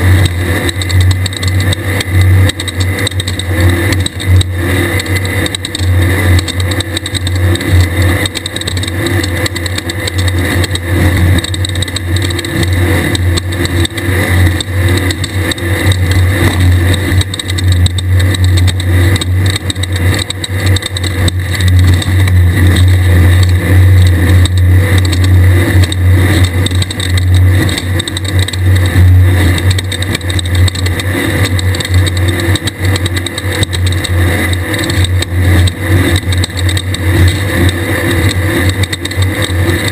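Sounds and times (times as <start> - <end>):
buggy engine running hard: 0.0 - 39.9
rush of noise: 0.0 - 39.9.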